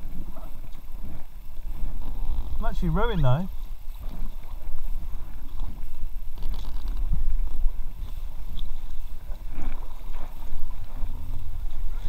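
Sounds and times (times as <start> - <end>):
faint water sounds: 0.0 - 12.0
microphone handling and wind rumble: 0.0 - 12.0.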